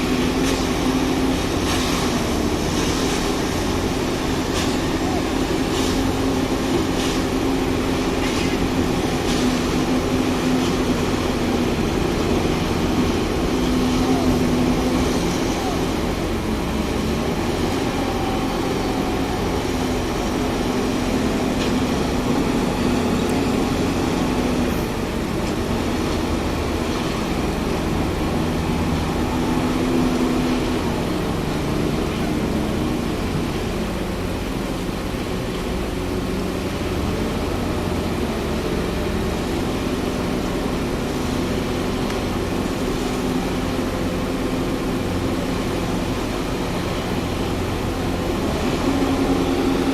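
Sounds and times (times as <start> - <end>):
concrete machine engines droning: 0.0 - 49.9.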